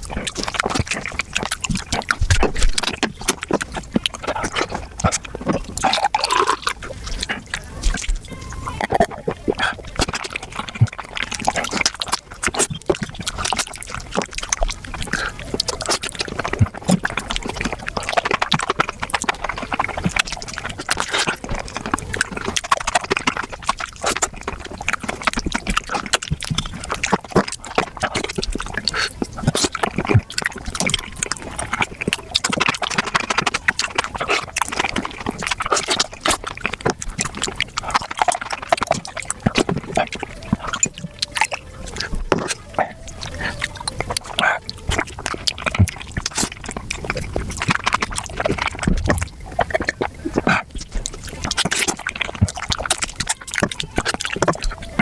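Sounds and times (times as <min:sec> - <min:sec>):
wet chewing and slurping: 0:00.0 - 0:55.0.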